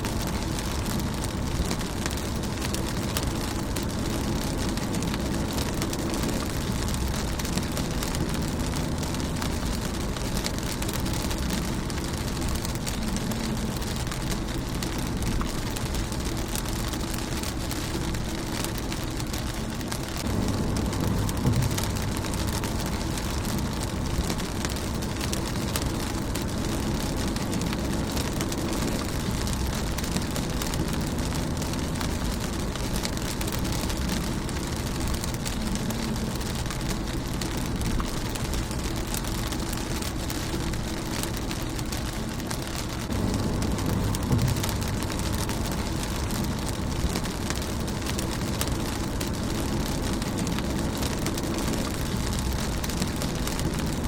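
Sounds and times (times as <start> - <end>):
low rumble: 0.0 - 54.0
rain on car windshield: 0.0 - 54.0.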